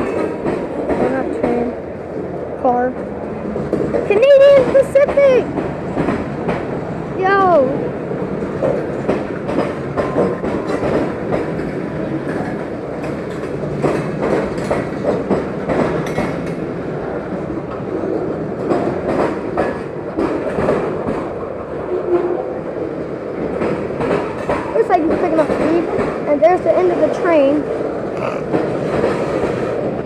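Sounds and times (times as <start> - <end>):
train wheels clacking on rail joints: 0.0 - 1.7, 2.9 - 22.5, 23.4 - 30.0.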